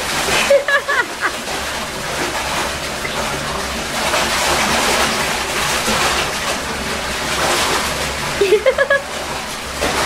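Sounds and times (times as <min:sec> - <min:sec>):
water rushing in a bathtub: 0:00.0 - 0:10.0.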